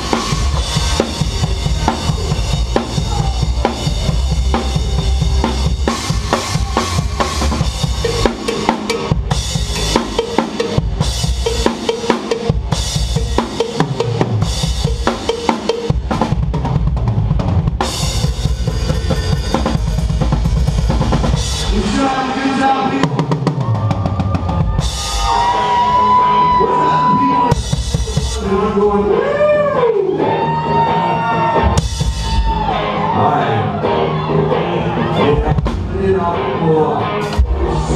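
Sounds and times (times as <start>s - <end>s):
rock band playing live: 0.0s - 37.9s.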